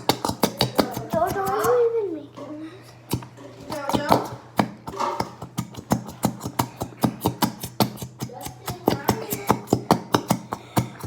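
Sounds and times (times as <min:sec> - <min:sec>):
sharp taps on a container: 0:00.0 - 0:01.8, 0:03.0 - 0:11.0.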